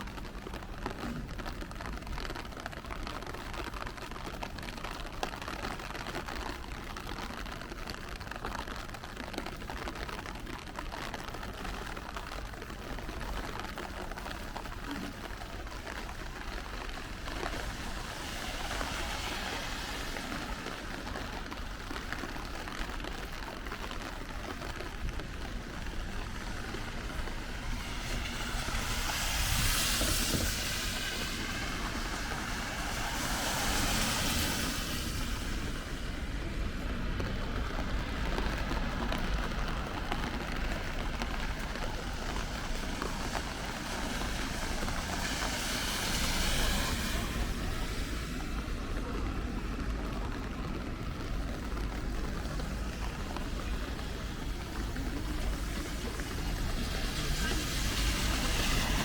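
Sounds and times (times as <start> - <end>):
rain hissing on pavement: 0.0 - 59.0
vehicle passing on wet road: 0.0 - 59.0.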